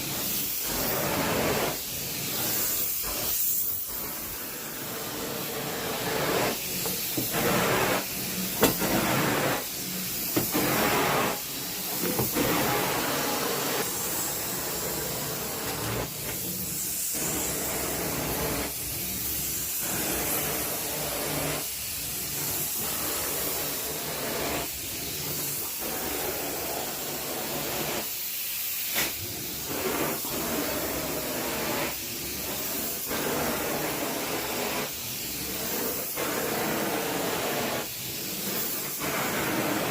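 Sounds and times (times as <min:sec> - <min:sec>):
carpet-cleaning machine rushing: 0:00.0 - 0:28.0, 0:29.0 - 0:39.9.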